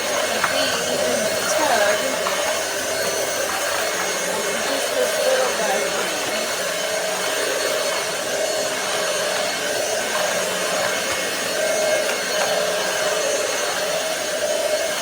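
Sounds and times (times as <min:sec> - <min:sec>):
cordless vacuum running: 0:00.0 - 0:15.0.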